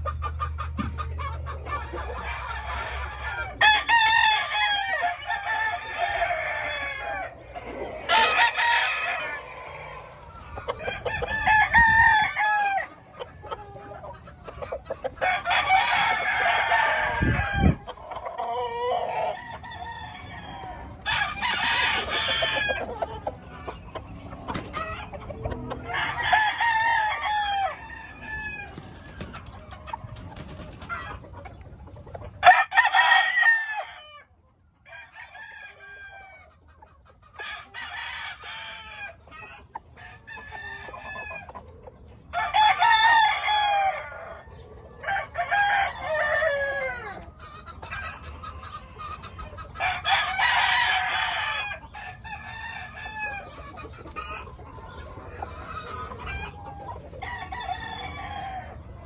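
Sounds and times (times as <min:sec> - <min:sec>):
roosters crowing: 0:00.0 - 0:59.0.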